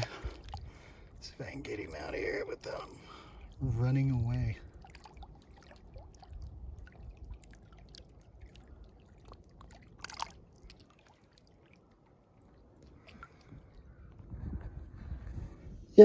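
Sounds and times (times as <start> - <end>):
water splashing and dripping: 0.0 - 14.2.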